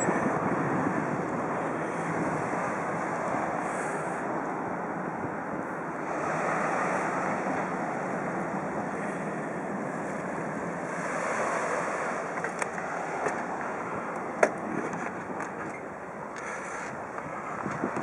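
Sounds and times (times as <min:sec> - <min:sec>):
wind buffeting microphone: 0:00.0 - 0:16.2, 0:16.9 - 0:18.0.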